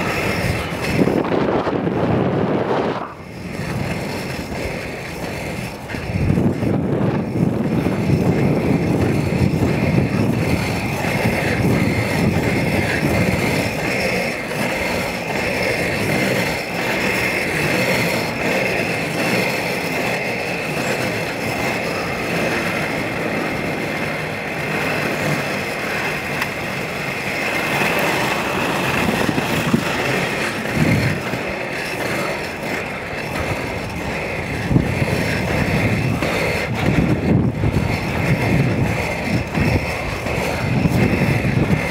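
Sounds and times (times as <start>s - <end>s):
skate wheels rolling on asphalt: 0.0s - 41.9s.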